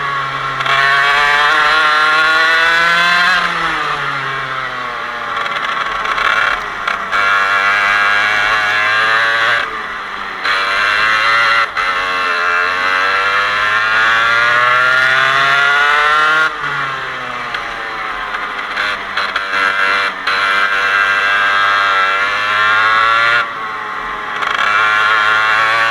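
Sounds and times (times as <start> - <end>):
two-stroke kart engine wailing: 0.0 - 25.9.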